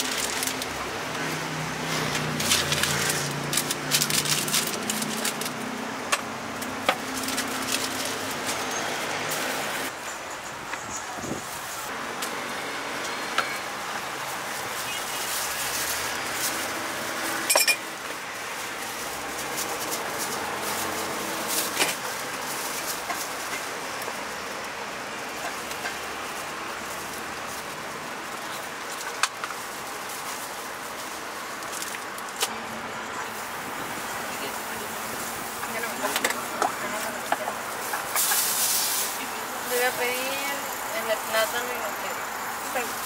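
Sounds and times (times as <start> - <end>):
traffic noise: 0.0 - 43.0.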